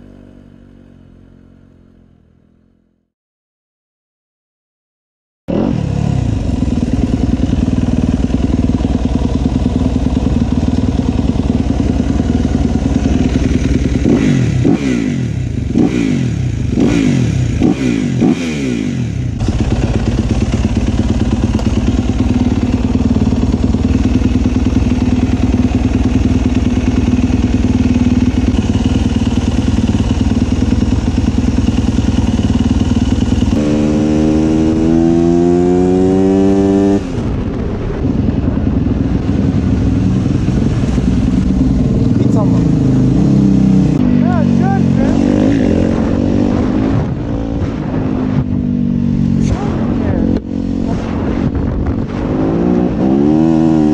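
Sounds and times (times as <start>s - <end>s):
motorcycle engine revving: 5.5s - 53.9s.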